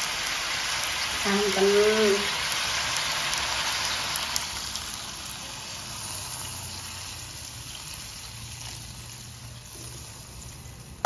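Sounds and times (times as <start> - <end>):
frying sizzle in wok: 0.0 - 11.0.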